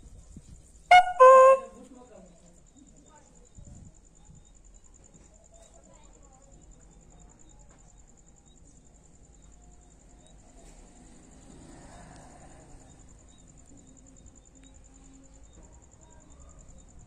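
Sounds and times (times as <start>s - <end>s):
cricket chirping: 0.1s - 17.0s.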